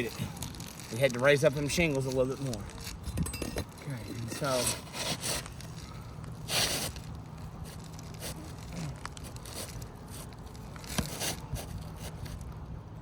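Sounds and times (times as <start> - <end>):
roof shingles scraping and crinkling: 0.0 - 12.6.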